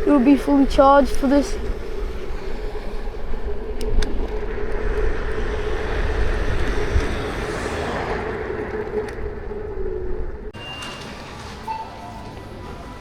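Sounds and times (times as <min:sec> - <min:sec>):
wind rumble on microphone: 0:00.0 - 0:10.6
electric scooter motor whine: 0:00.0 - 0:13.0
road noise: 0:00.0 - 0:13.0.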